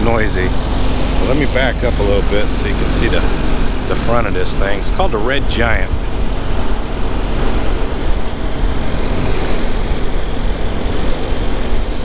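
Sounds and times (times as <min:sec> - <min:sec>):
diesel refrigeration unit droning: 0:00.0 - 0:12.0.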